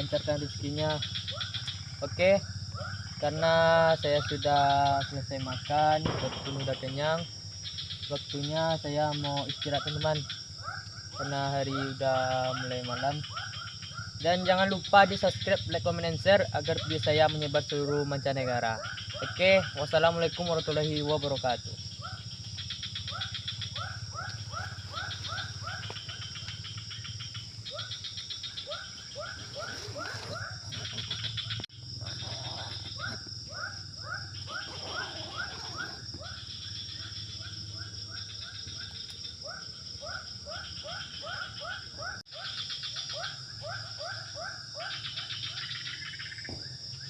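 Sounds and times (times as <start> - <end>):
frog calling: 0.0 - 47.0
high insect drone: 0.0 - 47.0.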